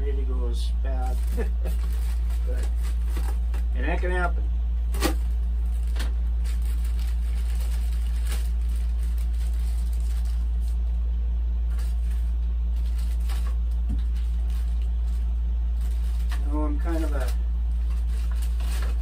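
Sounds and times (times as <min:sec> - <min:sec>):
steady low hum: 0:00.0 - 0:19.0
plastic bag crinkling: 0:01.0 - 0:03.6, 0:05.0 - 0:10.8, 0:11.7 - 0:19.0.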